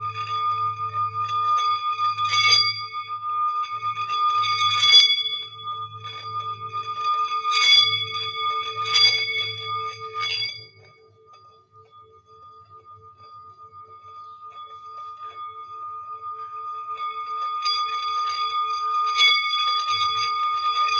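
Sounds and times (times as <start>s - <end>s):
singing bowl ringing: 0.0s - 20.9s.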